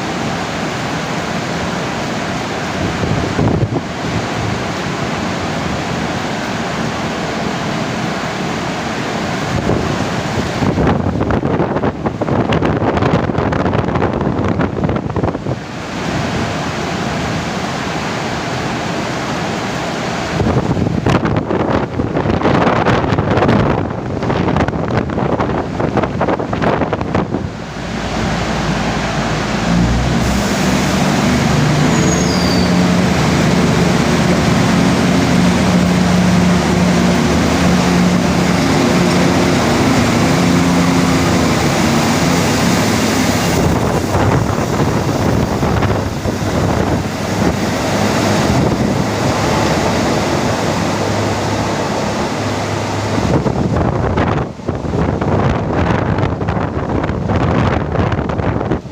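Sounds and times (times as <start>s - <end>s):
rain: 0.0s - 11.4s, 14.1s - 22.2s, 24.0s - 55.8s
diesel locomotive engine drone: 0.0s - 58.9s
wind on microphone: 2.6s - 6.0s, 9.4s - 17.4s, 20.2s - 58.9s.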